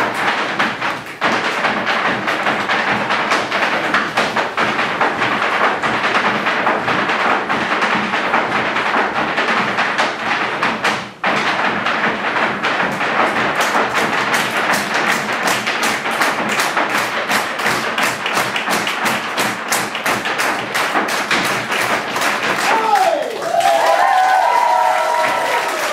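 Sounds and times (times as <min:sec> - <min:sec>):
hard-shoe dance taps: 0:00.0 - 0:25.9.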